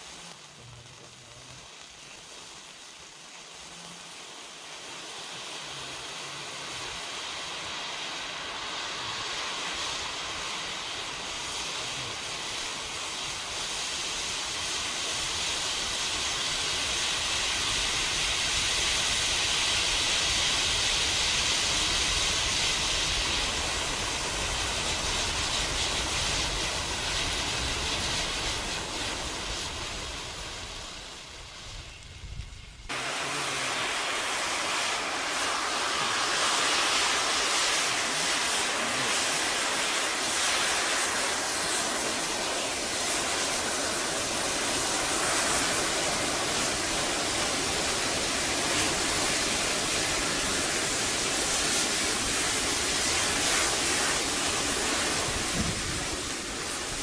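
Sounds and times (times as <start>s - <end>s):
sparklers fizzing: 0.0s - 57.0s.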